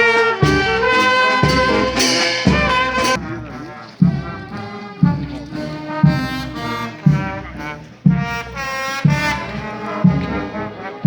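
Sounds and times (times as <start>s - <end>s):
bass drum beats: 0.0s - 10.9s
brass band playing slow march: 0.0s - 11.0s.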